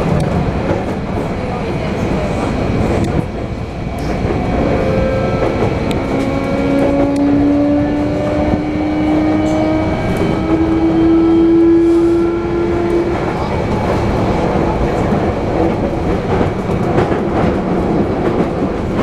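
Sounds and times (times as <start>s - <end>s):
wheels rumbling on track: 0.0s - 19.0s.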